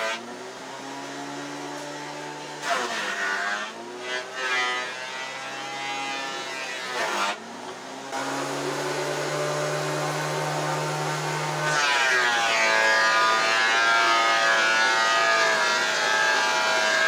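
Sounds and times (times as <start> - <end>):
planer cutting board: 0.0 - 17.0
thickness planer whining: 0.0 - 17.0.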